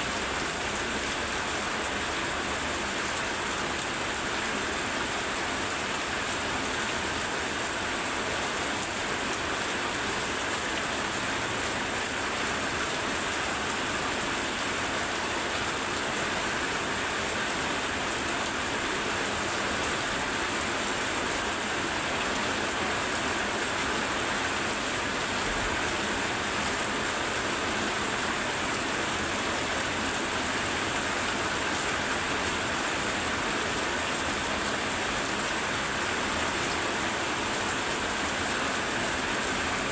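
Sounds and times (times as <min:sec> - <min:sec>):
very heavy rain: 0:00.0 - 0:39.9.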